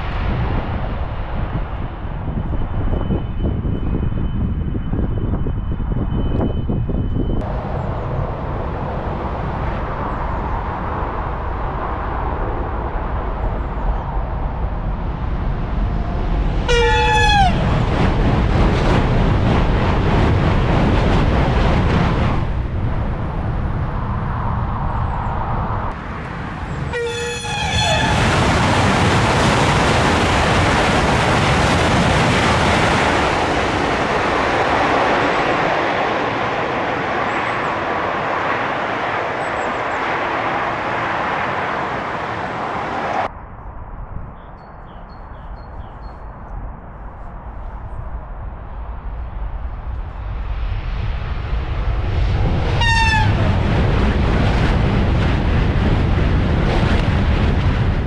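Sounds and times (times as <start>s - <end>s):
high-speed train passing: 0.0s - 58.0s.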